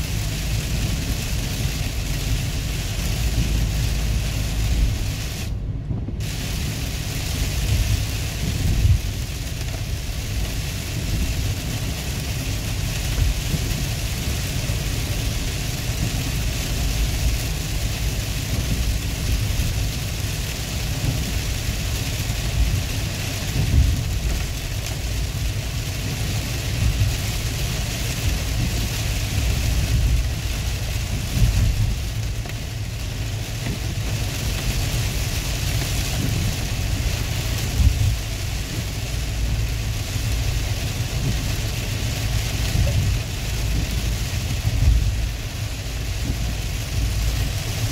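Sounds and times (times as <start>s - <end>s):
car engine and tyre noise: 0.0s - 47.9s
heavy rain on car windshield: 0.0s - 47.9s.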